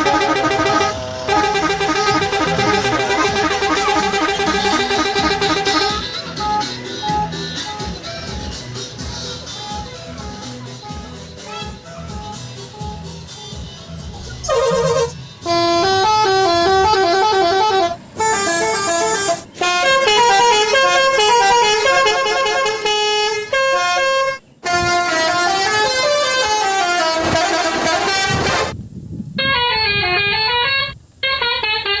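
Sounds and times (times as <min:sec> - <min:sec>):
horn playing fast melodic tune: 0:00.0 - 0:08.6, 0:14.4 - 0:28.8, 0:29.4 - 0:32.0.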